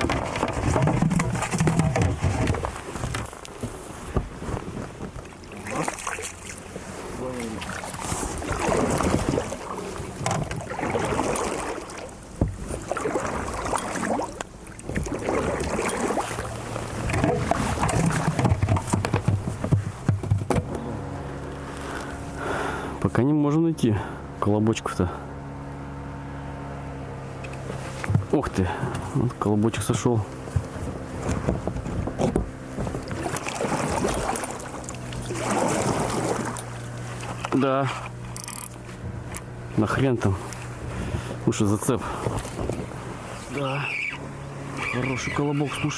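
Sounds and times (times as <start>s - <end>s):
low hum: 0.0s - 45.9s
water sloshing around a boat: 0.0s - 45.9s.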